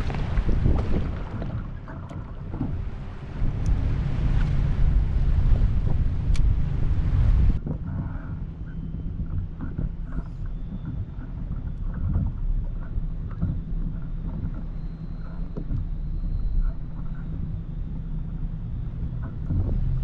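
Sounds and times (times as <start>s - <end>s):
water splashing against kayak: 0.0s - 20.0s
wind buffeting microphone: 0.0s - 20.0s.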